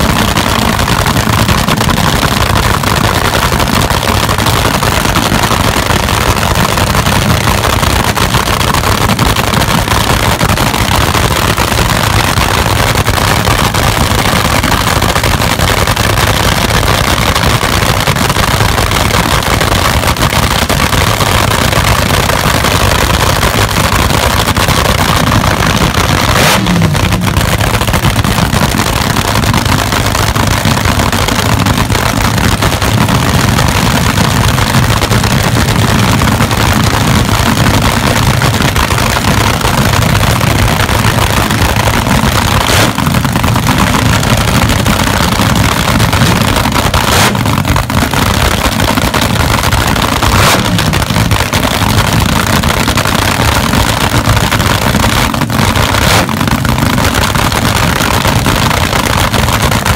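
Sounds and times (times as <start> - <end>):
dragster engine revving loud: 0.0 - 59.9.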